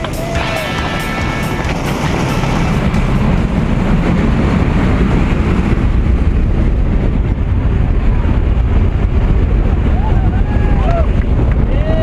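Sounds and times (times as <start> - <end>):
light aircraft engine: 0.0 - 12.0
wind rushing: 0.0 - 12.0.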